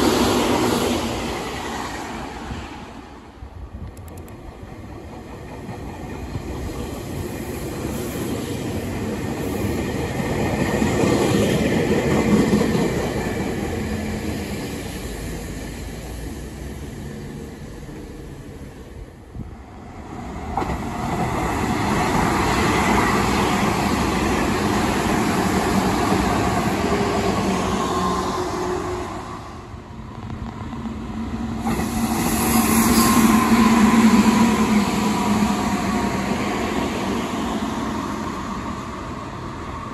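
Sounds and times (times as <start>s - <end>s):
train running gear whine: 0.0s - 39.9s
train wheels rolling on rails: 0.0s - 39.9s.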